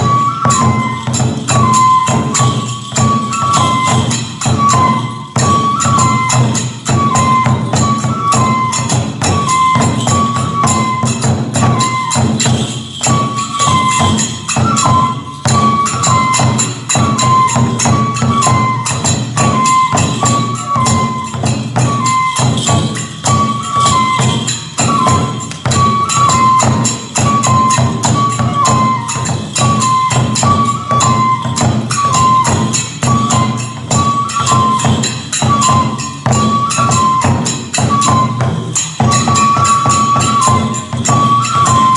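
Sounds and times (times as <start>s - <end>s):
bamboo flute melody: 0.0s - 41.9s
rapid taiko drum strokes: 0.0s - 41.9s
small hand cymbals clashing: 0.0s - 41.9s.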